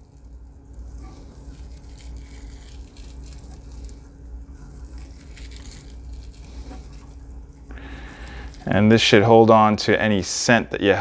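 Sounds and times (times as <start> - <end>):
low background rumble: 0.0 - 10.8
faint hum: 0.0 - 11.0.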